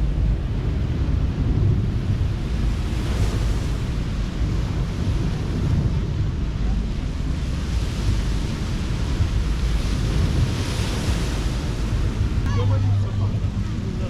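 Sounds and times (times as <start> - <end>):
ocean surf washing onto beach: 0.0 - 14.0
wind rumbling on microphone: 0.0 - 14.0.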